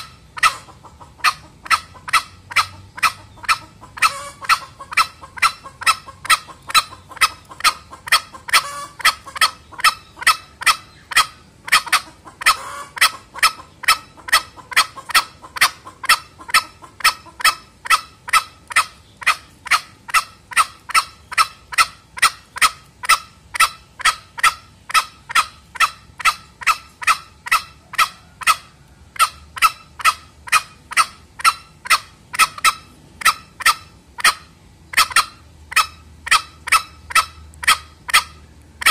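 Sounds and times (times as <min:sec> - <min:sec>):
junglefowl lure call: 0:00.0 - 0:38.9.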